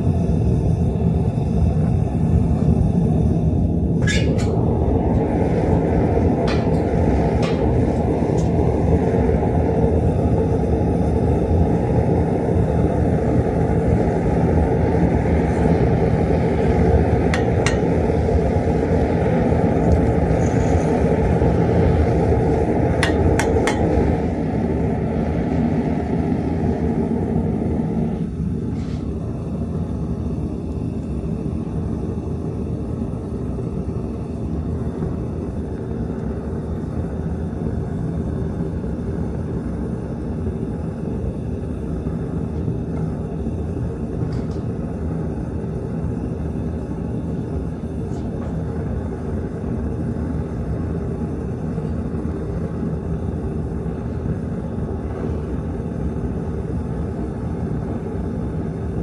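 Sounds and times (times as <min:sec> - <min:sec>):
gas burner roaring: 0:00.0 - 0:59.0.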